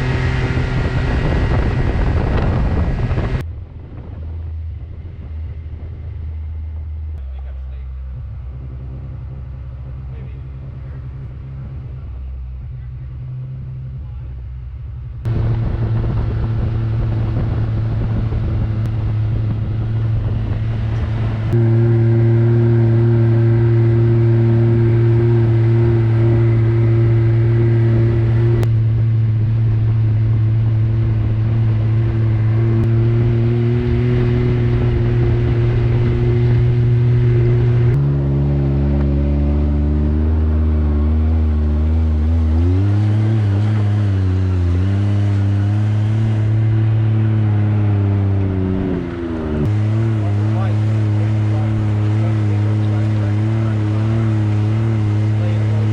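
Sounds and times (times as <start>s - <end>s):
utility vehicle engine running: 0.0s - 55.9s.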